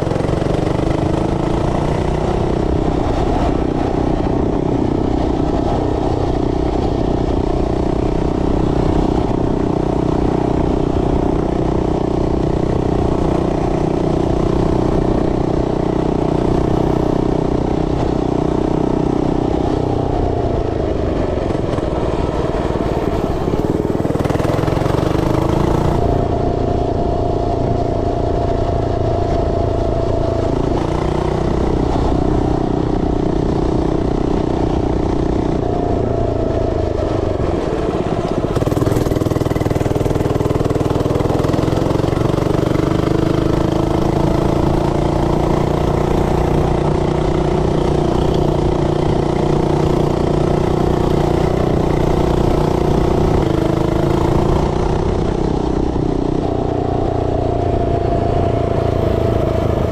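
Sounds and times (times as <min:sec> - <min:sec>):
mini bike engine revving: 0:00.0 - 0:27.5, 0:28.1 - 0:59.9.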